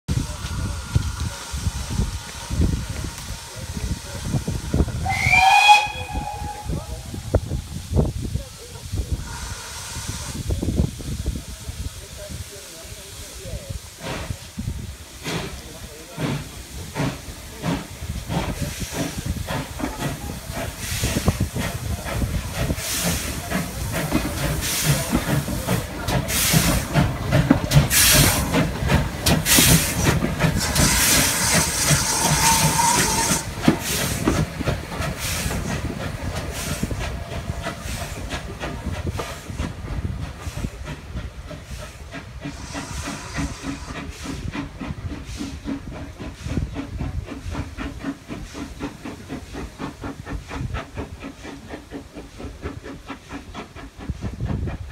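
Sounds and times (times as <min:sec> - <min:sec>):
steam hissing: 0:00.1 - 0:54.9
steam locomotive exhaust chuffs: 0:00.1 - 0:54.9.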